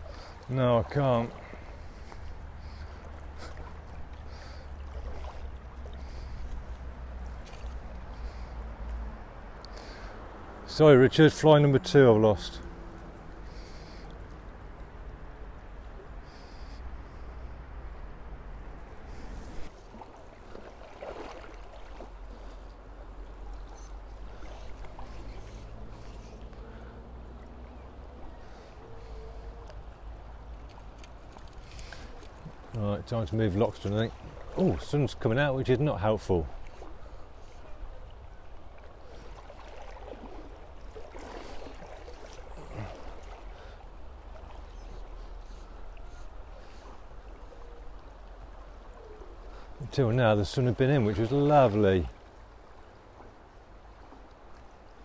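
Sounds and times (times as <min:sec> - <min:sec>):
river water rushing: 0:00.0 - 0:16.2, 0:17.6 - 0:55.0.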